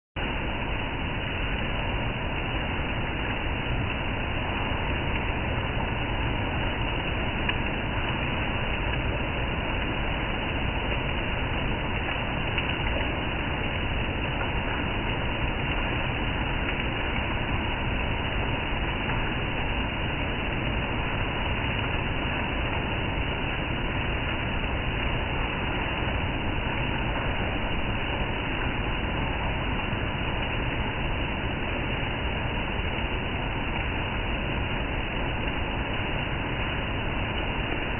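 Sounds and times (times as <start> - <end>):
rain hissing: 0.2 - 37.9.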